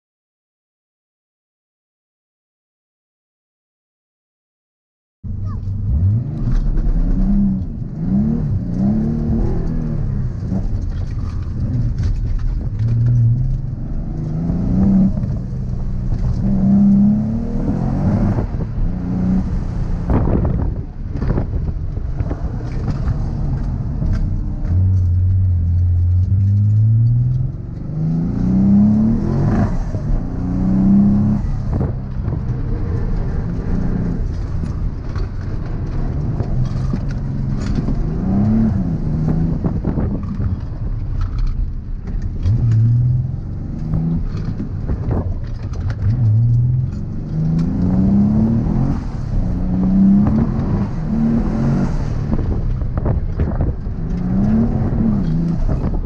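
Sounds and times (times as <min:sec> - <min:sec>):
car engine revving: 0:05.3 - 0:56.0.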